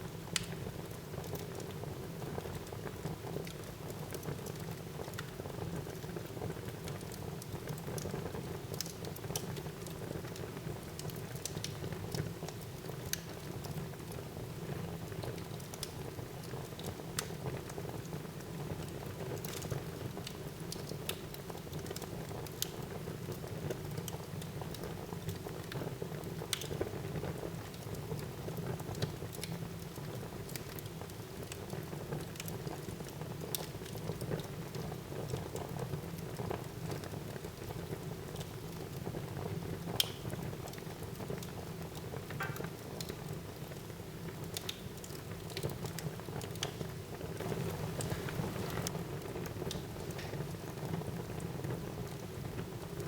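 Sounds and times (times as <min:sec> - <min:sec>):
wood fire burning with crackles: 0:00.0 - 0:53.0.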